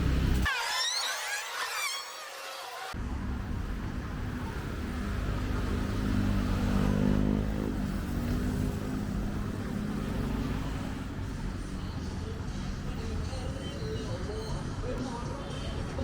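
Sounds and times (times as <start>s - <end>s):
street rumble: 0.0s - 0.5s, 2.9s - 16.0s
vehicle engine running: 0.0s - 0.5s, 3.0s - 16.0s.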